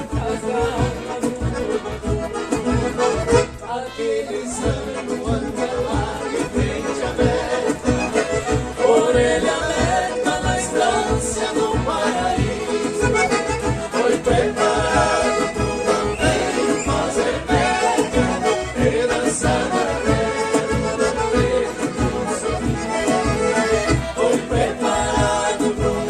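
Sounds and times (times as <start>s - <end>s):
person singing: 0.0s - 2.0s, 3.6s - 22.6s
accordion melody: 0.0s - 26.0s
steady bass beat: 4.3s - 26.0s.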